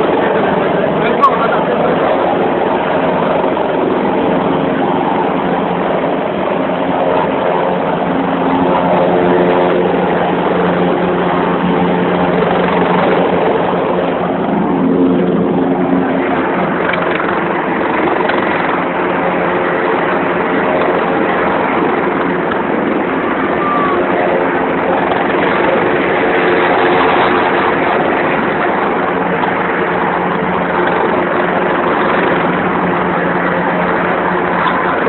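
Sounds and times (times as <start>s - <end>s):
helicopter drone: 0.0s - 35.0s.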